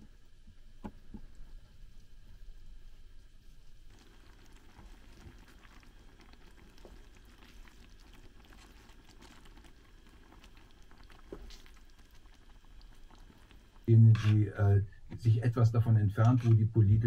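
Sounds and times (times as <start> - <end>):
food bubbling and crackling in pan: 0.0 - 16.8.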